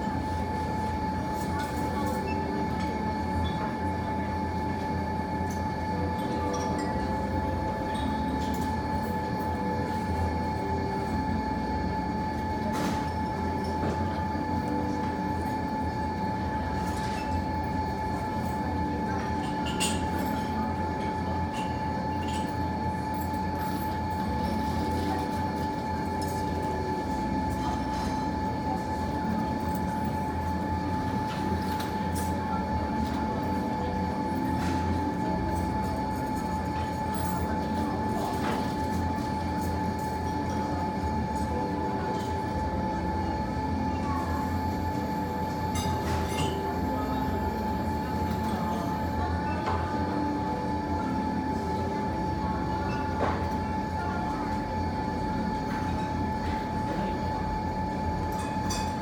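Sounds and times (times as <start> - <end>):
constant even hum: 0.0 - 59.0.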